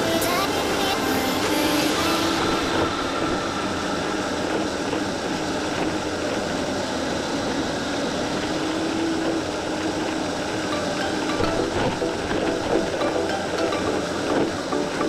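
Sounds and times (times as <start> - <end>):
electric motor and tracks whirring: 0.0 - 15.0
faint motor whine: 0.0 - 15.0.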